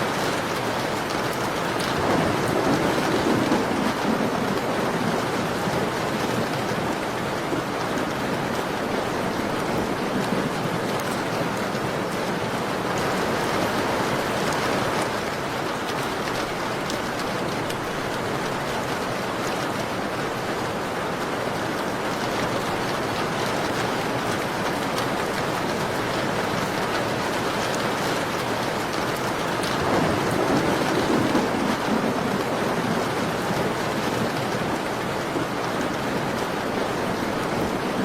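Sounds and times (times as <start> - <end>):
rain pattering on a window: 0.0 - 38.0.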